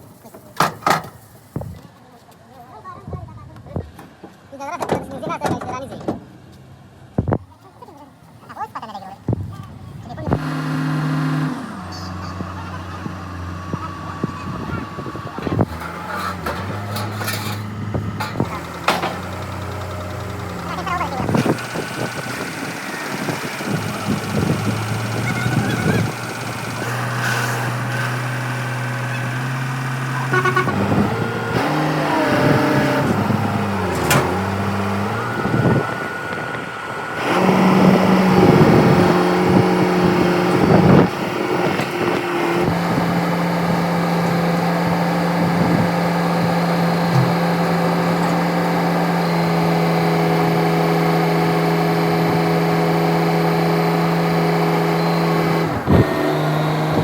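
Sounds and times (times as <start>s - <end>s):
dump truck engine running: 4.6s - 57.0s.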